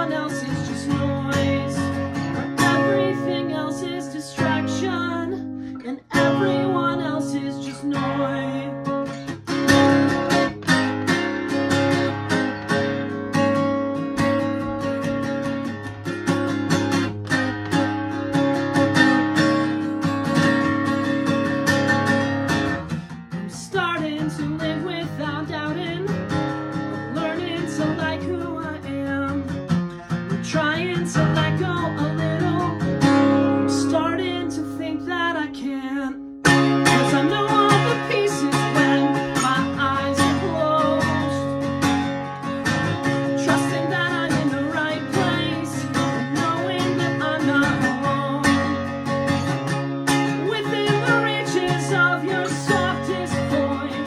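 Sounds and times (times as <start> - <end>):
acoustic guitar strumming chords: 0.0 - 54.0.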